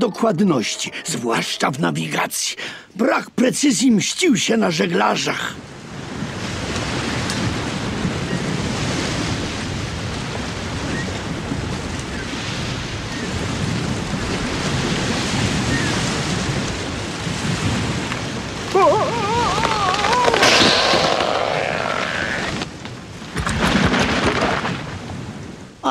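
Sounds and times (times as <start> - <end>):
waves: 0.0 - 25.9
wind: 0.0 - 25.9.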